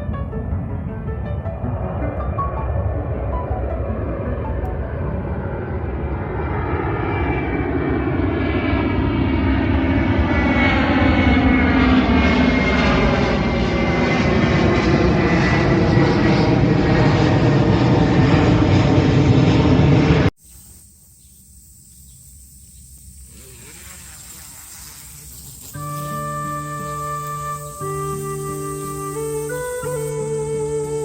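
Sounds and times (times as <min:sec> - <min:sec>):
jet airliner flying overhead: 0:00.0 - 0:20.4, 0:23.0 - 0:31.0.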